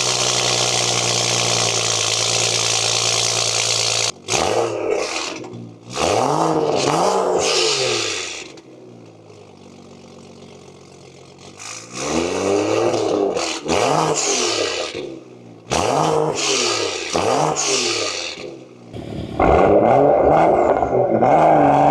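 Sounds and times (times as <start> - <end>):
car engine revving and idling: 0.0 - 21.9.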